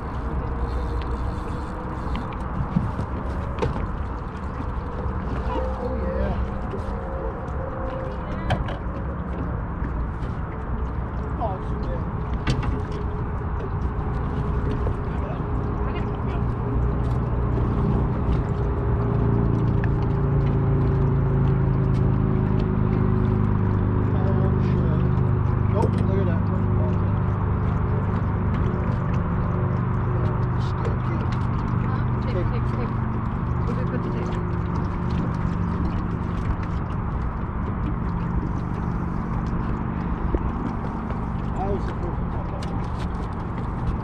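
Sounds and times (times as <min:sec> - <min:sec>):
outboard motor humming: 0:00.0 - 0:44.0.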